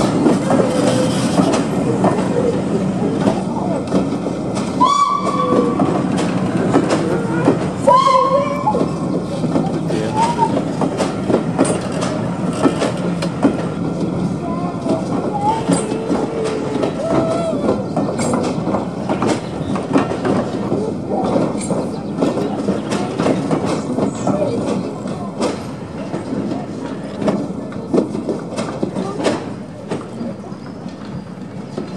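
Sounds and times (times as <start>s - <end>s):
train wheels clattering over rail joints: 0.0s - 31.9s.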